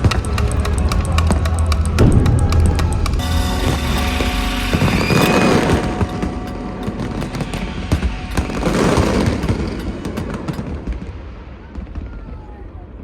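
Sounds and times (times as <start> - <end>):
music: 0.0 - 11.2
fireworks crackle: 0.0 - 12.5
fireworks cracks and bangs: 0.0 - 13.0.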